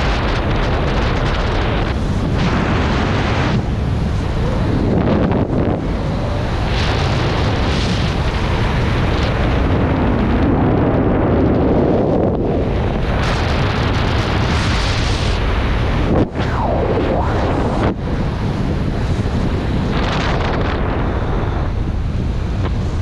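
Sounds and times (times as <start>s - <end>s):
rushing air buffeting microphone: 0.0s - 23.0s.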